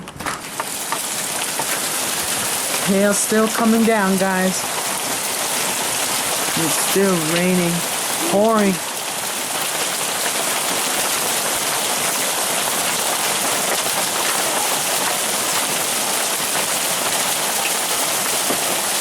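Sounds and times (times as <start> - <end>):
heavy rain pouring: 0.3 - 19.0
hailstones ticking: 0.4 - 19.0.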